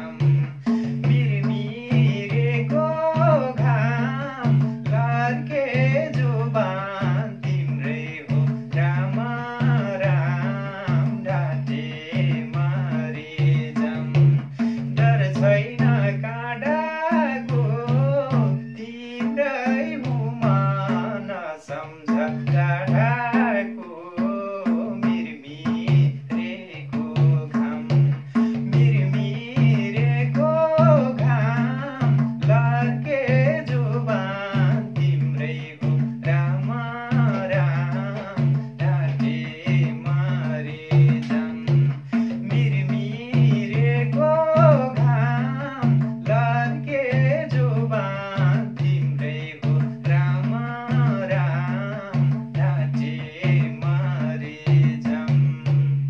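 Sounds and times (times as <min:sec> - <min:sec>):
hand drum beat: 0:00.0 - 0:56.0.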